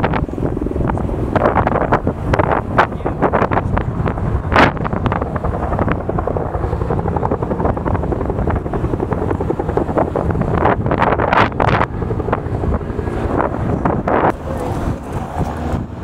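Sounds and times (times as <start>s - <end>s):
helicopter rotor and engine: 0.0s - 16.0s
wind buffeting microphone: 0.0s - 16.0s.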